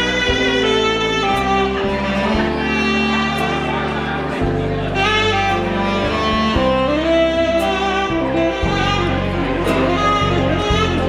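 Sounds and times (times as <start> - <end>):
bass line: 0.0 - 11.0
saxophone melody: 0.0 - 11.0.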